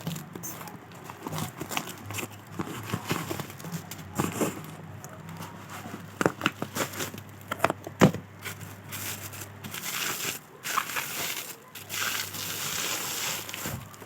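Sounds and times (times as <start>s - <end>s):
plastic and cardboard crinkling: 0.0s - 14.0s.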